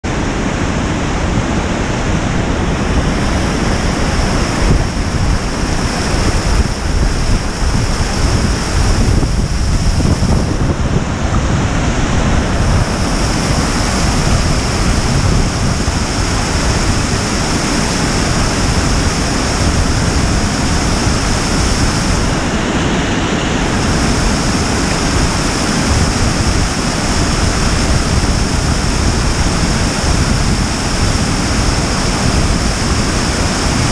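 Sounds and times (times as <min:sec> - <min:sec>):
waterfall rushing onto rocks: 0:00.1 - 0:33.9.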